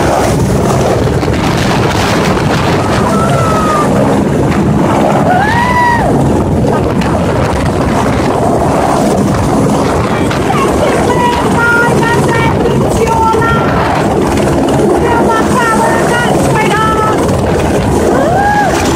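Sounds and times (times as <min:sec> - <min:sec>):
helicopter rotor and engine noise: 0:00.0 - 0:18.9
wind buffeting microphone: 0:00.0 - 0:18.9.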